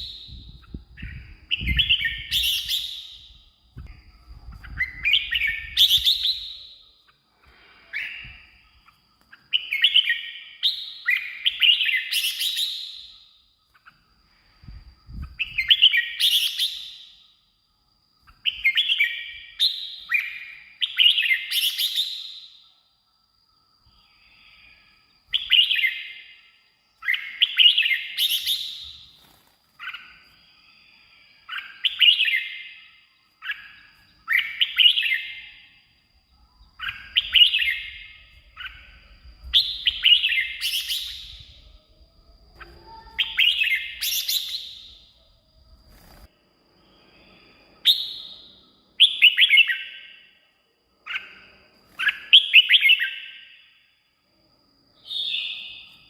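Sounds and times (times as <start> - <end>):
bird singing warbled phrases: 0.0 - 17.3, 18.2 - 22.8, 23.9 - 46.3, 47.8 - 53.8, 55.0 - 56.0.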